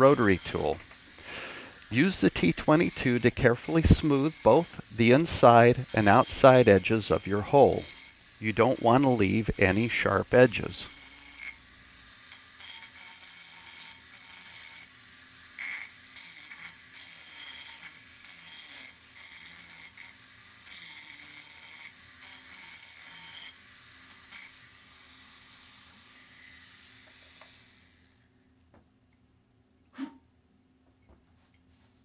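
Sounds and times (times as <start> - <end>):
rotary tool grinding glass: 0.0 - 28.3
rotary tool running: 0.0 - 28.3.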